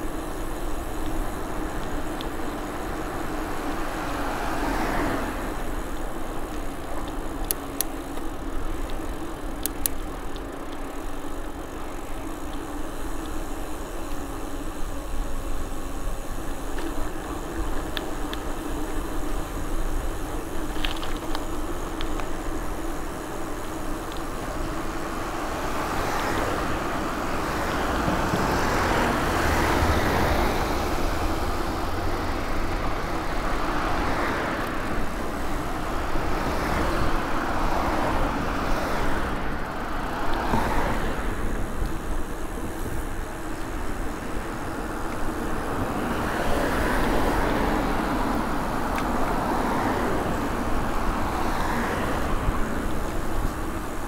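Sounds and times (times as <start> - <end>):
cars passing by: 0.0 - 54.0.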